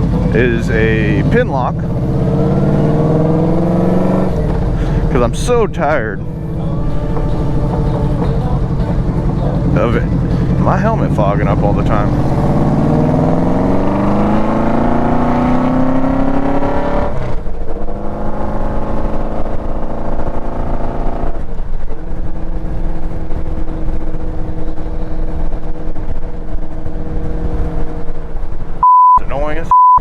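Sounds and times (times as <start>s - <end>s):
motorcycle engine accelerating: 0.0s - 28.8s.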